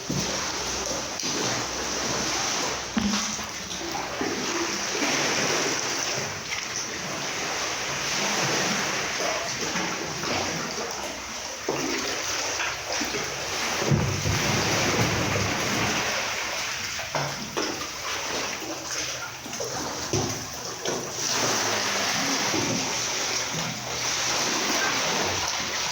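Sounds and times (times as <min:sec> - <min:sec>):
water splashing around a kayak: 0:00.0 - 0:25.9.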